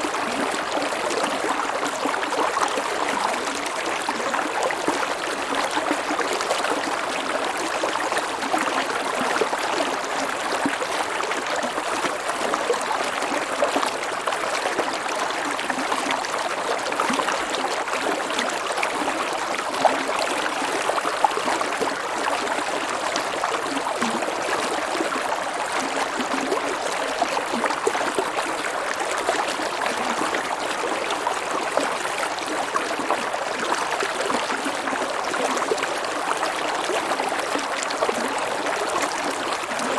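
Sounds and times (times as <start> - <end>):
stream flowing over waterfall: 0.0 - 39.9.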